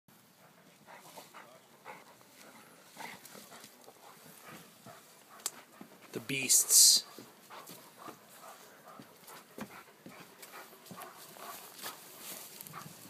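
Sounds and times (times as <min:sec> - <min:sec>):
dog barking faintly: 0:00.4 - 0:13.0.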